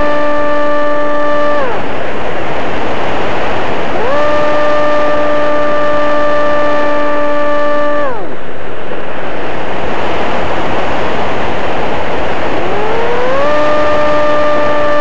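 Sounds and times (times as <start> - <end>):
electric motor and propeller whining: 0.0 - 8.6, 9.8 - 15.0
wind rushing: 0.0 - 15.0.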